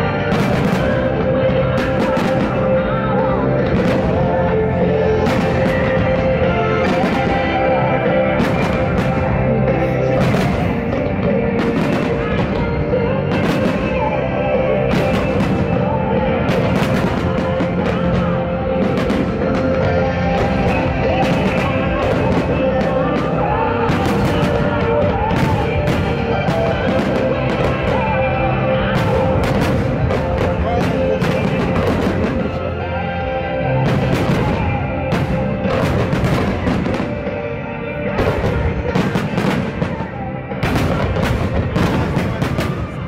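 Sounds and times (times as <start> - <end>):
firework bangs: 0.0 - 43.0
rock music playing: 0.0 - 43.0.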